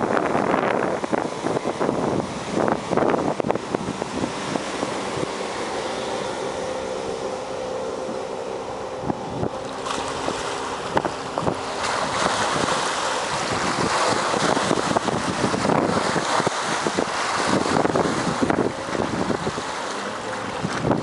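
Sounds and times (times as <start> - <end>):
outboard motor drone: 0.0 - 21.0
wind on microphone: 0.0 - 21.0.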